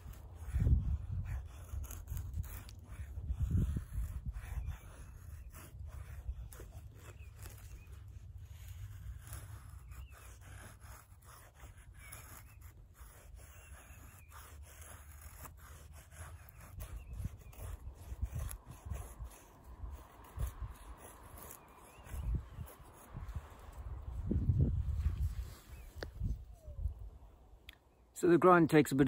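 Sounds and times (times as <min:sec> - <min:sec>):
knife scraping wooden stick: 0:00.0 - 0:26.7.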